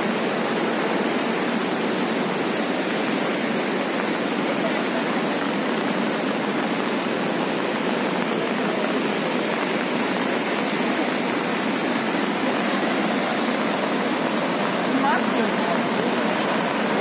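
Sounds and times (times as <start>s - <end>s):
fast-flowing river rushing: 0.0s - 17.0s.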